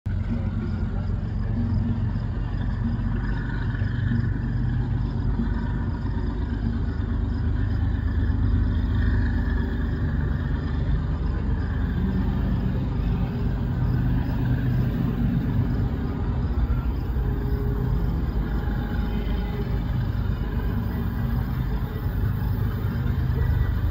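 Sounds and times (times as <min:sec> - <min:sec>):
diesel locomotive rumble: 0:00.0 - 0:23.9.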